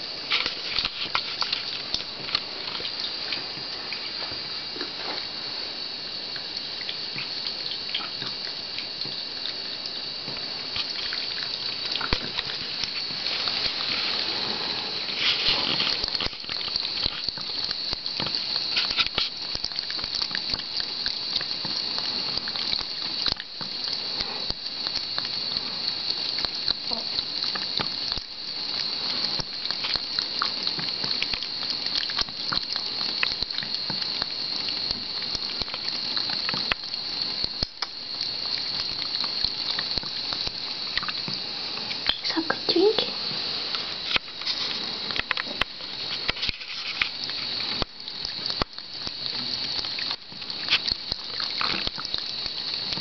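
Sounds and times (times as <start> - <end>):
cat drinking from stream: 0.0 - 53.0
faucet running into sink: 0.0 - 53.0.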